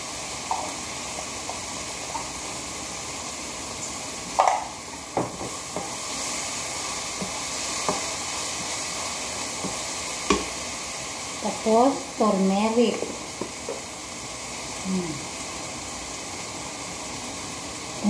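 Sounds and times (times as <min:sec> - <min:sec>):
onion and tomato sizzling in a wok: 0:00.0 - 0:18.0.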